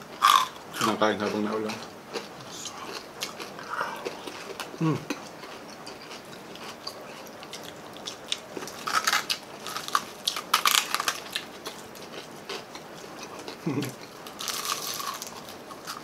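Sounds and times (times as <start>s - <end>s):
crispy food crunching: 0.1s - 16.0s.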